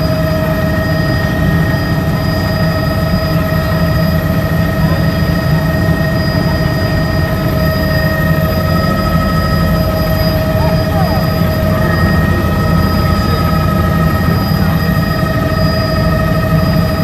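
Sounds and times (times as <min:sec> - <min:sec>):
helicopter engine and rotor: 0:00.0 - 0:17.0
high-pitched whining tones: 0:00.0 - 0:17.0.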